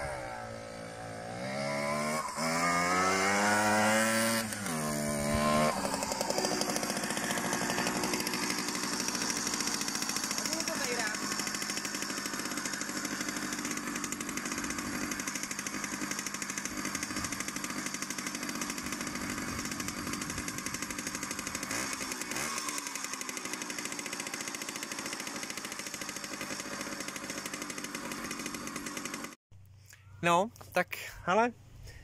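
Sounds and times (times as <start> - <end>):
moped engine idling: 3.2 - 29.4.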